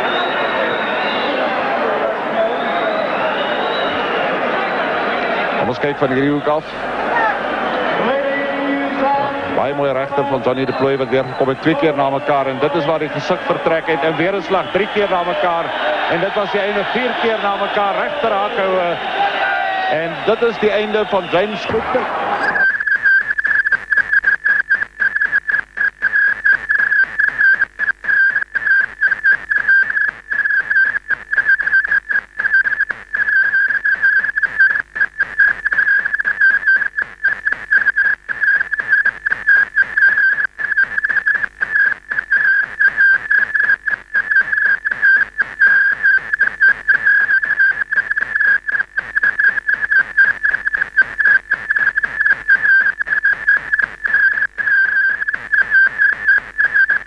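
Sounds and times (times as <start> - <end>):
whistle-like electronic tone: 0.0 - 1.7, 2.3 - 4.4, 10.1 - 18.7, 22.4 - 57.0.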